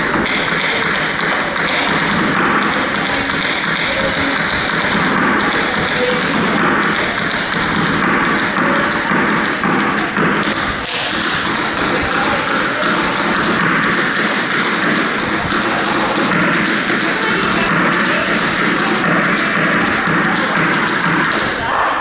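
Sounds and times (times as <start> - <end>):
tap shoes on wooden floor: 0.0 - 21.6.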